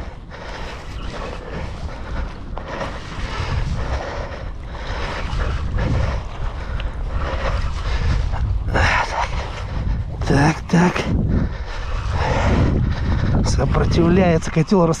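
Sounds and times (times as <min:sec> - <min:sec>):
boat engine rumble: 0:00.0 - 0:15.0
wind buffeting microphone: 0:00.0 - 0:15.0.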